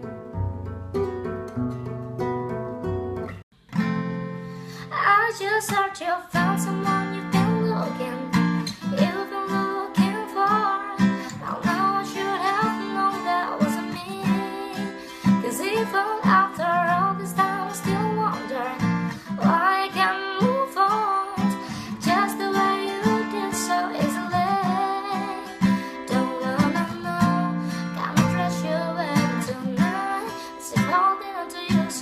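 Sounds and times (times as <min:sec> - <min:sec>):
acoustic guitar strumming: 0:00.0 - 0:04.9, 0:05.7 - 0:32.0
woman singing: 0:04.8 - 0:32.0.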